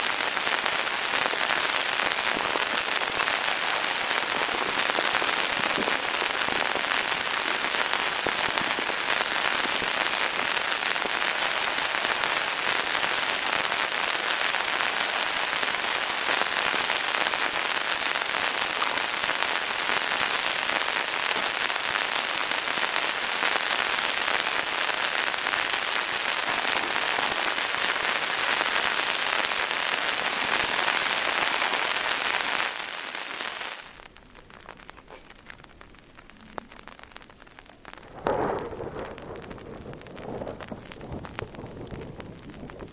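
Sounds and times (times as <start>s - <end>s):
heavy rain hissing: 0.0s - 42.9s.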